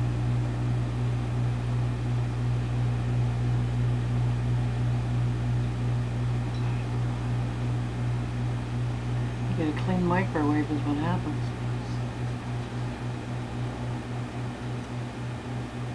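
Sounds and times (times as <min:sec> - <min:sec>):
microwave oven humming: 0:00.0 - 0:15.9.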